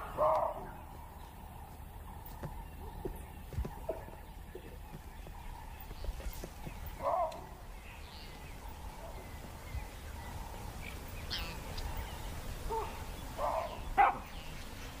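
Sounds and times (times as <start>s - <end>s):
bush ambience: 0.0s - 15.0s
harsh bird calls: 0.0s - 15.0s.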